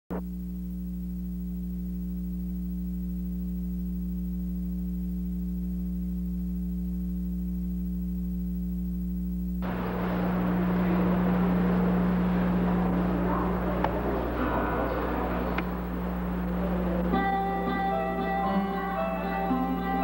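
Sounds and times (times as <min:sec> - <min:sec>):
electrical hum with tones: 0:00.1 - 0:20.0.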